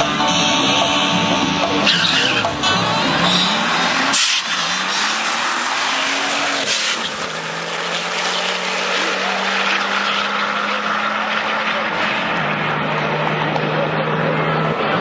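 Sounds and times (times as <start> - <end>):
race cars accelerating hard: 0.0 - 15.0
steady engine drone: 0.0 - 15.0.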